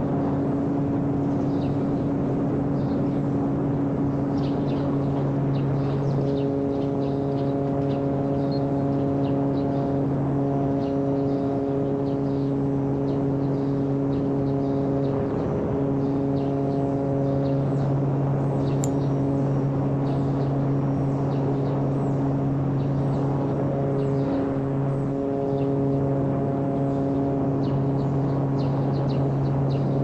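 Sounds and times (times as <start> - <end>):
electric motor and propeller hum: 0.0 - 30.0.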